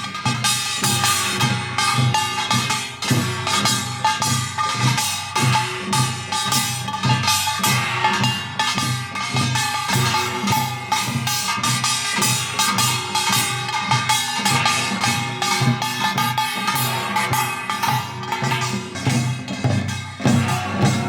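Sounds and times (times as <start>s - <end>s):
drums beating quick rhythm: 0.0s - 21.0s.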